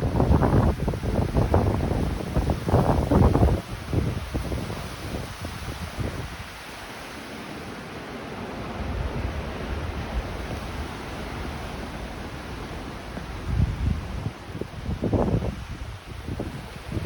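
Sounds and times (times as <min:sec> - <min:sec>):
wind buffeting microphone: 0:00.0 - 0:06.7, 0:08.6 - 0:17.0
storm surf breaking: 0:00.0 - 0:17.0.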